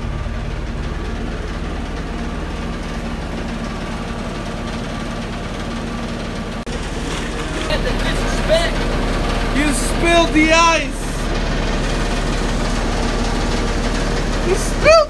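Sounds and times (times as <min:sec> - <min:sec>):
held low tones: 0:00.0 - 0:15.0
low machine hum: 0:00.0 - 0:15.0.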